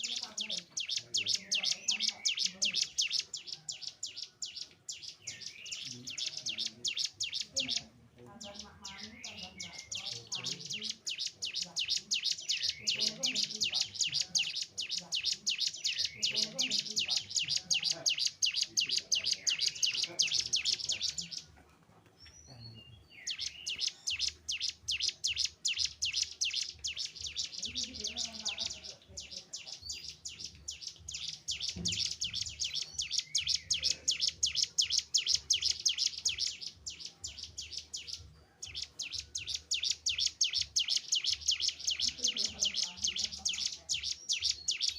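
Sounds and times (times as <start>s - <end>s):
bird trilling high-pitched chirps: 0.0s - 21.5s, 22.2s - 44.9s.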